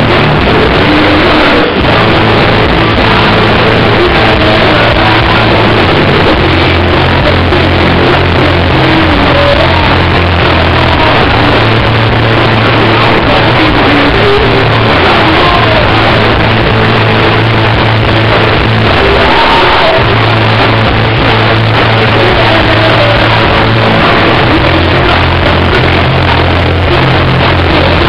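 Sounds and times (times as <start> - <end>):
distorted live rock band: 0.0 - 28.0.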